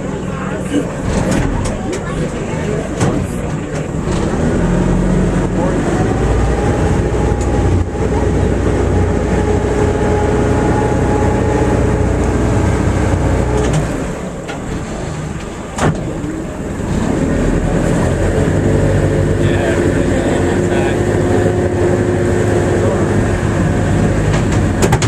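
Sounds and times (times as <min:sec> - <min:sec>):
boat motor rumbling: 0:00.0 - 0:25.0.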